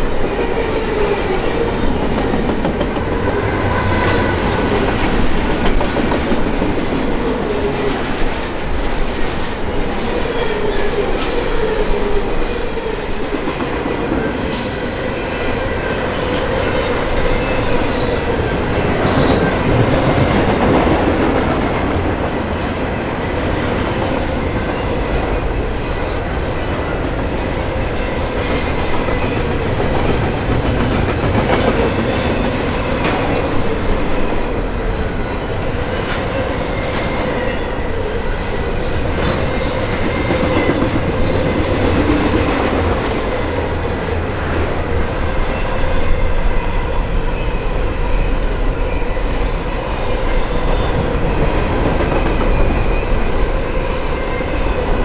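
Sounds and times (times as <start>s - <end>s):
train wheels clattering on rails: 0.0s - 45.9s, 48.4s - 55.0s.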